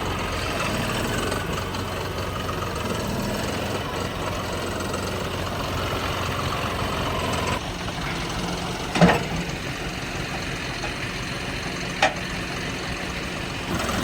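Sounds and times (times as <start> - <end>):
diesel tractor engine running: 0.0 - 14.0.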